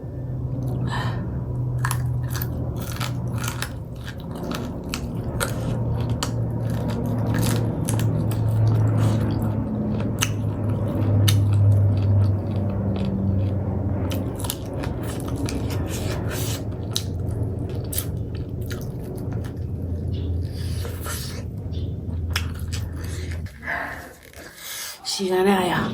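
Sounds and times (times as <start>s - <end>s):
low hum: 0.0s - 25.9s
close-up chewing and mouth smacks: 1.6s - 25.0s.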